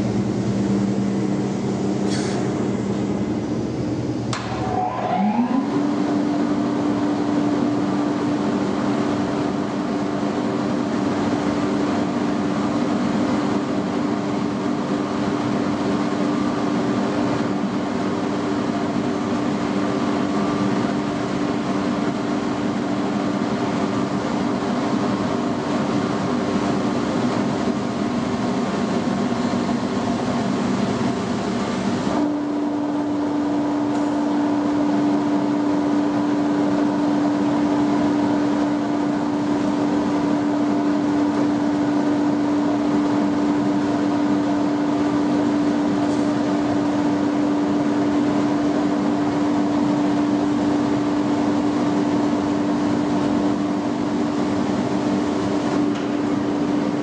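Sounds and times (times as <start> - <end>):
whirring rush of air: 0.0 - 57.0.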